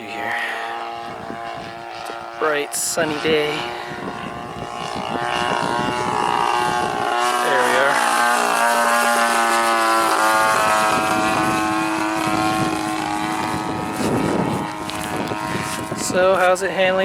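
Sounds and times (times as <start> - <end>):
model airplane engine drone: 0.0 - 17.0.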